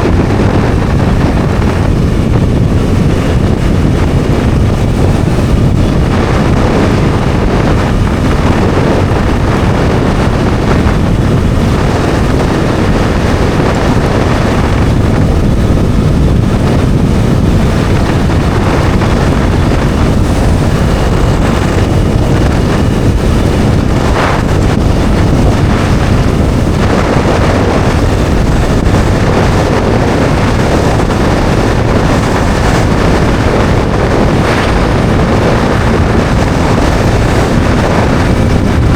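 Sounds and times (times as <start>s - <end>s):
motorcycle engine cruising: 0.0s - 38.9s
wind noise on microphone: 0.0s - 38.9s.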